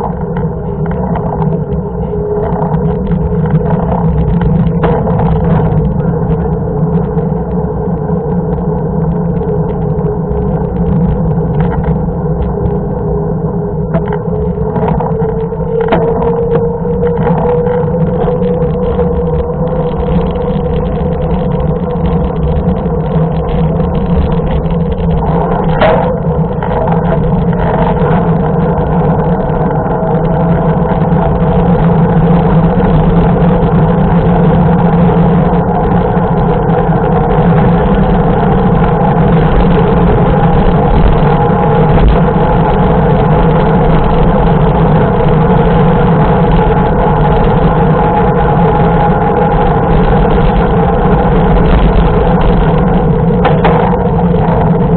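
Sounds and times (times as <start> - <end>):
bike tyre rolling on asphalt: 0.0 - 54.9
wind buffeting microphone: 0.0 - 54.9.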